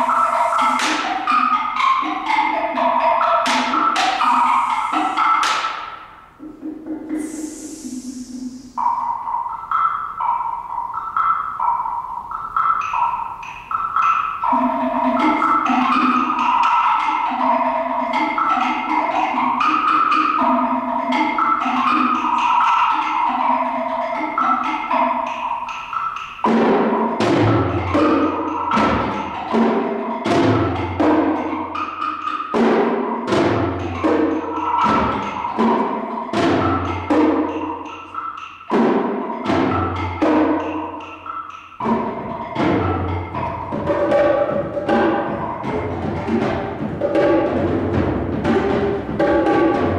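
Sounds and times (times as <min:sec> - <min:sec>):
ringing pitched percussion: 0:00.0 - 0:49.9
sharp drum and cymbal hits: 0:00.0 - 0:49.9.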